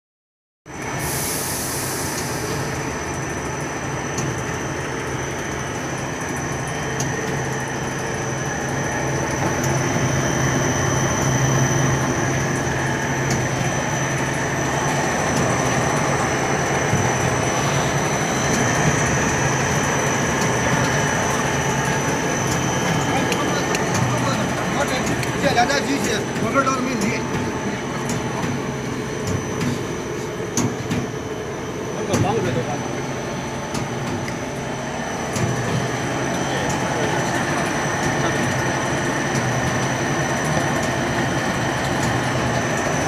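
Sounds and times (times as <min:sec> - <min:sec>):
machinery low hum: 0:00.7 - 0:43.0.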